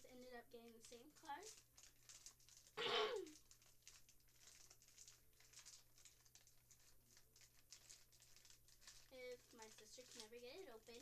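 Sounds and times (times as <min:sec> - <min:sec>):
plastic packaging crinkling: 0:00.0 - 0:11.0
small crackles: 0:00.0 - 0:11.0.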